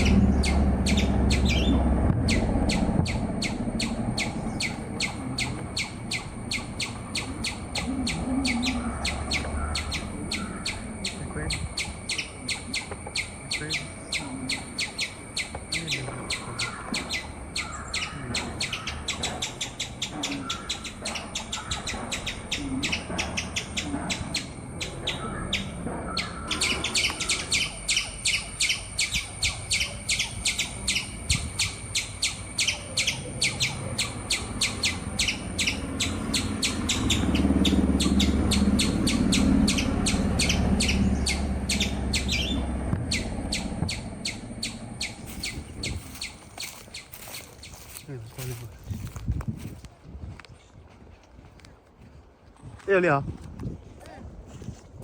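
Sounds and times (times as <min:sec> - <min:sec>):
bird chirping: 0:00.0 - 0:49.2
low rumble: 0:00.0 - 0:50.5.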